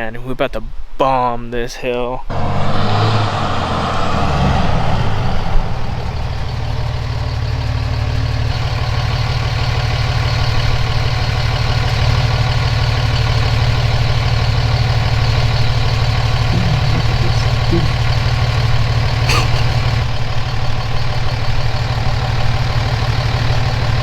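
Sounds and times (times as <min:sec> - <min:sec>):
engine idling: 0:02.3 - 0:24.0.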